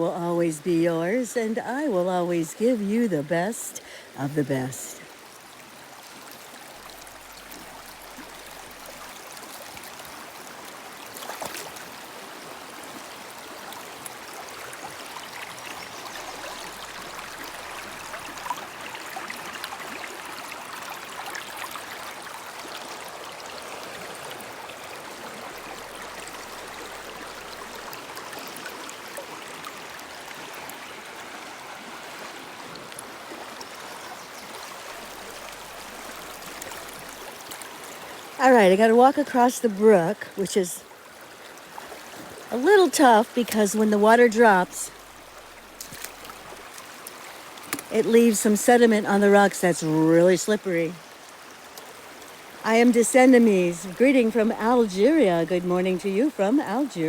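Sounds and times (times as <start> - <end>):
brook flowing over rocks: 0.0 - 57.0.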